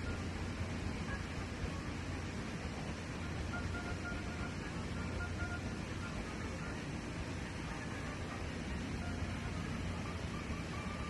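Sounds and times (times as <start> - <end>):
boat engine rumble: 0.0 - 11.0
hiss of boat underway: 0.0 - 11.0.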